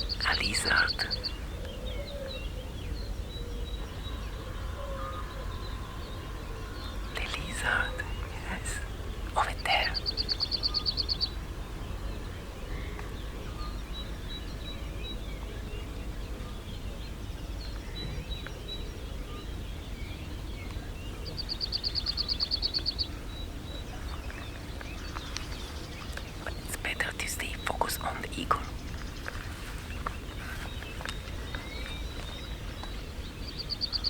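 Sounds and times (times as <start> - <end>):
low steady background rumble: 0.0 - 34.0.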